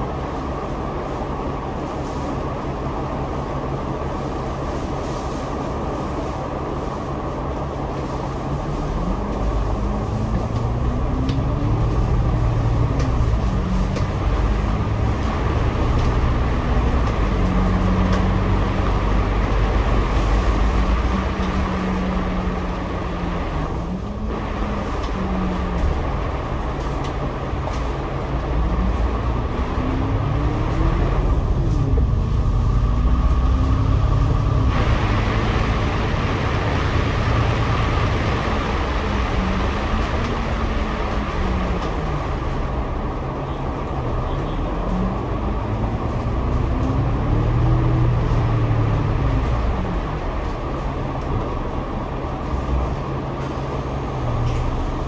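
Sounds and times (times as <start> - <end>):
bus engine and gearbox: 0.0 - 55.0.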